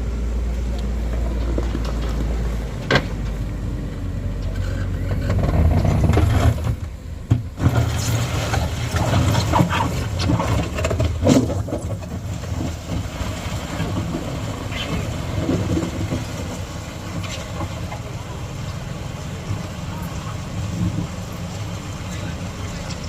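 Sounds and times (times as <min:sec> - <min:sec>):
heavy vehicle engines running: 0:00.0 - 0:23.0.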